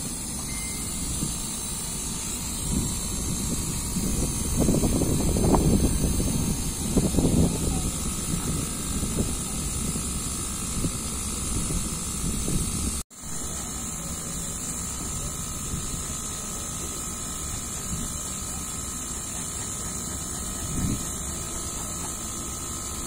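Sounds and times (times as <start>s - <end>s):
machine running: 0.0s - 23.0s.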